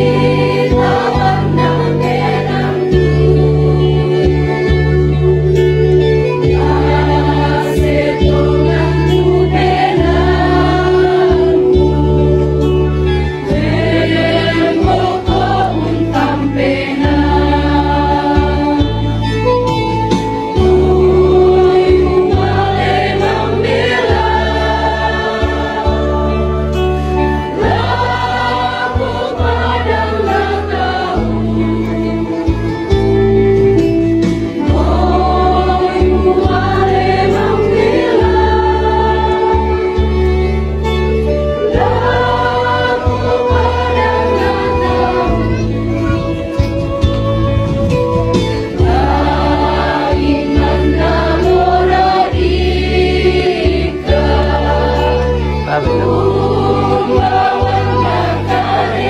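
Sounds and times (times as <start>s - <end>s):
choir singing a hymn: 0.0s - 59.0s
low chords: 0.0s - 59.0s.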